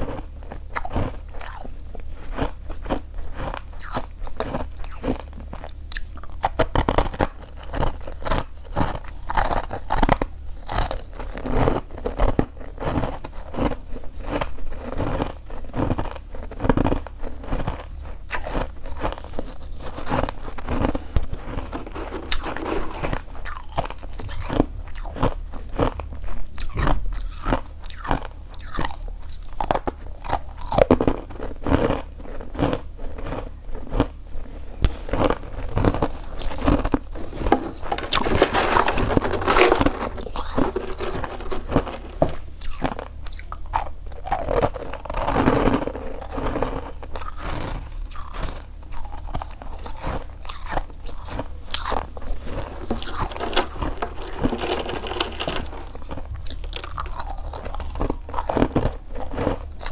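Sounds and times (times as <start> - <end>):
chewing crunchy frost: 0.0 - 59.9.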